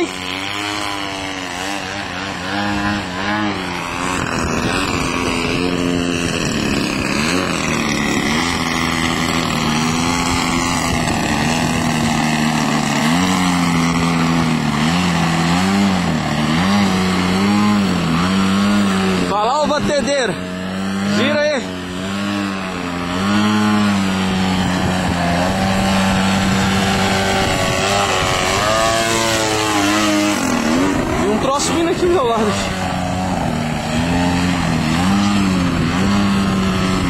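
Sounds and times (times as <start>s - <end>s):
model plane engine revving: 0.0s - 37.0s.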